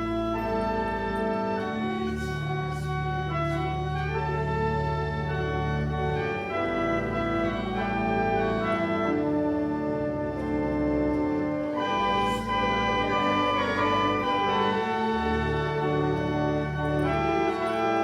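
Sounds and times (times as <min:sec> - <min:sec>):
church organ playing chords: 0:00.0 - 0:18.0.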